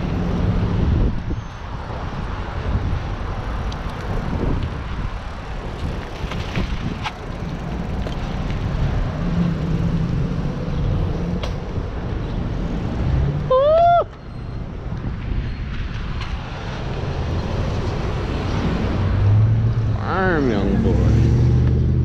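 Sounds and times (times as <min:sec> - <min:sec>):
road and wind rushing: 0:00.0 - 0:22.0.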